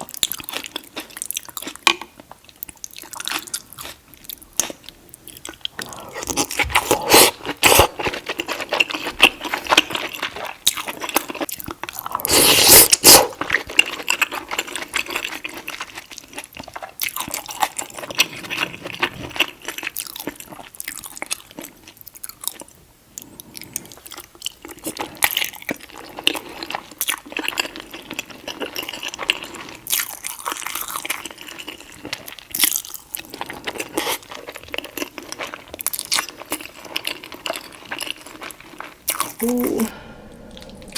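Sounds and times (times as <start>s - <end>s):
chewing with wet mouth smacks: 0.0s - 40.9s.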